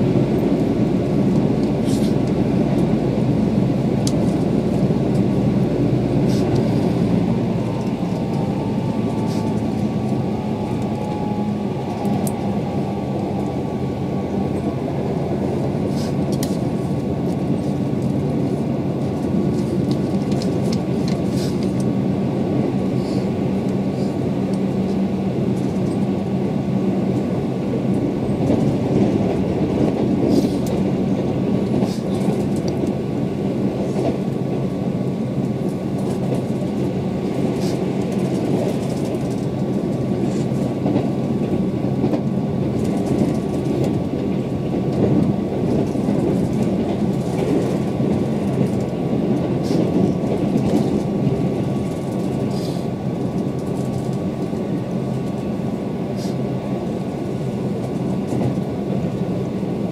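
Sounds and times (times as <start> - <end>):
train interior rumble: 0.0 - 59.9.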